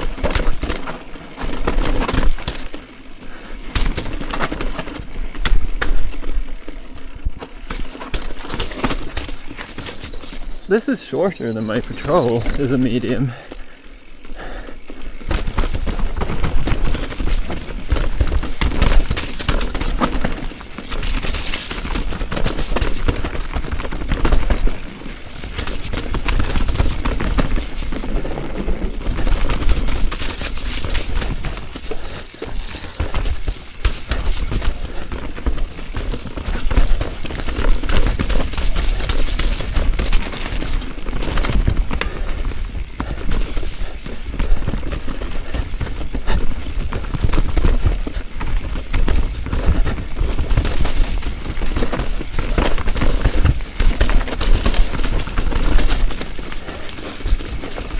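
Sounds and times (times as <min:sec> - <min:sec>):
bike rattling and clattering: 0:00.0 - 0:57.9
tyres on dirt and roots: 0:00.0 - 0:57.9.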